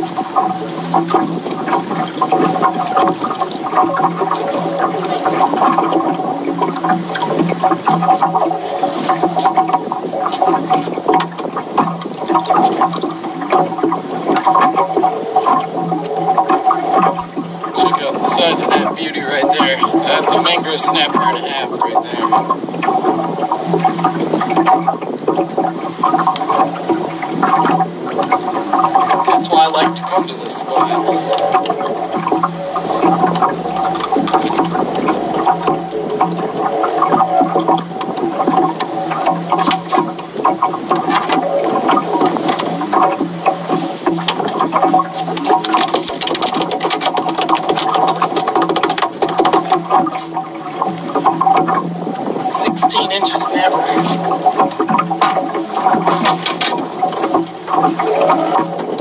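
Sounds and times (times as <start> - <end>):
small splashes and clicks: 0.0 - 59.0
water slapping boat hull: 0.0 - 59.0.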